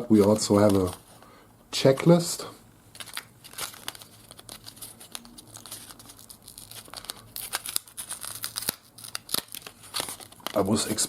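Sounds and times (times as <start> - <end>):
wrapper crinkling and tearing: 0.1 - 1.1, 2.9 - 11.0.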